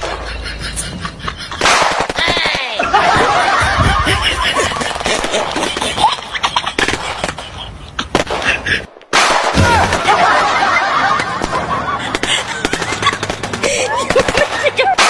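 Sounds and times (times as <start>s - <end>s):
laughter: 0.0s - 1.8s, 2.7s - 8.9s, 9.7s - 15.0s.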